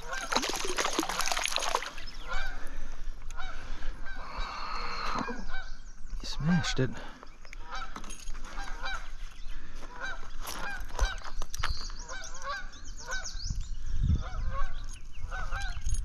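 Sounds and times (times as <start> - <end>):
bird calls: 0.0 - 16.0.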